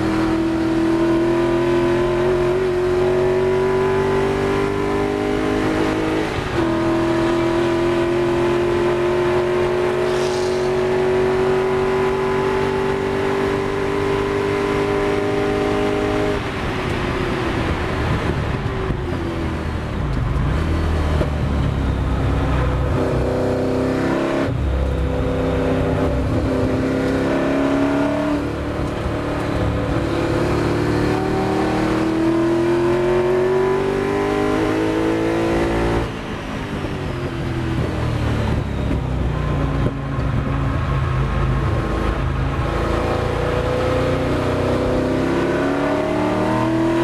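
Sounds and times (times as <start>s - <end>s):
race car engine revving: 0.0s - 18.5s, 22.4s - 36.2s, 41.0s - 47.0s
road and wind noise: 0.0s - 47.0s.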